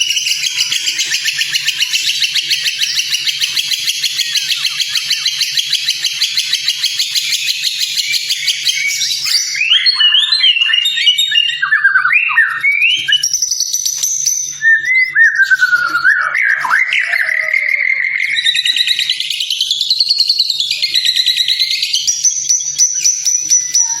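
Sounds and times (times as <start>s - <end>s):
bird singing trills and whistles: 0.0s - 24.0s.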